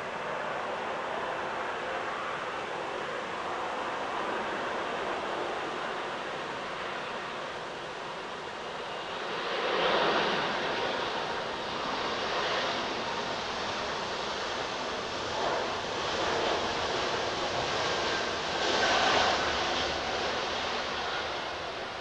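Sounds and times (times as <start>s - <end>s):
jet engines roaring on takeoff: 0.0s - 22.0s.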